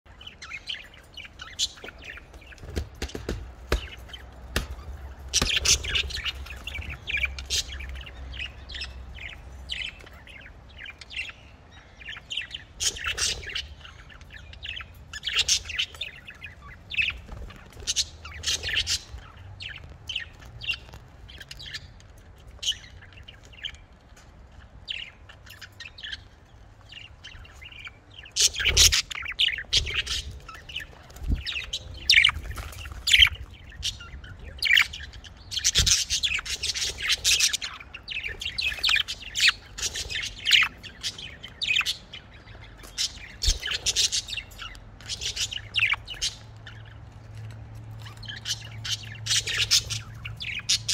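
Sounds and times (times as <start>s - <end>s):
budgerigars chirping: 0.1s - 50.9s.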